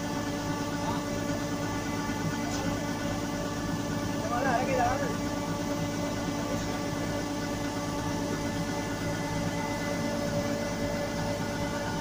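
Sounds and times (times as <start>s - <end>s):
combine harvester humming: 0.0s - 12.0s.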